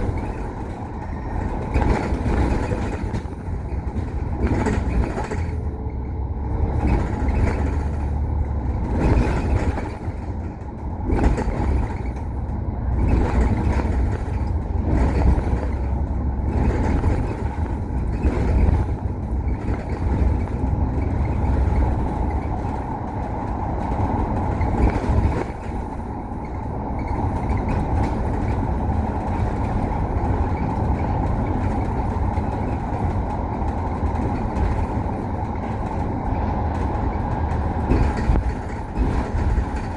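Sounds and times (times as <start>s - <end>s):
bus engine rumble: 0.0s - 39.9s.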